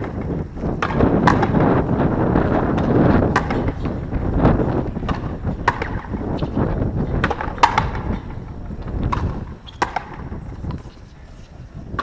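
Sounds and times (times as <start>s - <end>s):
wind rumble on microphone: 0.0s - 12.0s
rubber ball knocking off rackets and wall: 0.1s - 1.7s, 2.7s - 10.8s.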